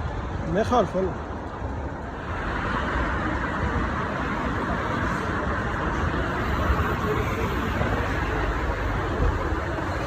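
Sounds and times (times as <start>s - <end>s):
road traffic rumbling: 0.0s - 10.0s.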